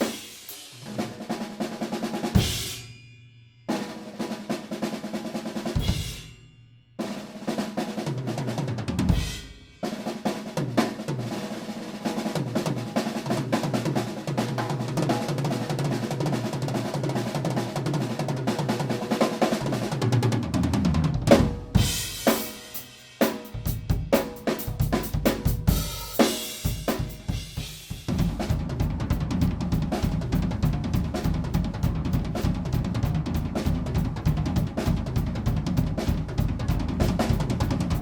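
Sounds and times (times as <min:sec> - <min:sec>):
drum kit solo: 0:00.0 - 0:38.0.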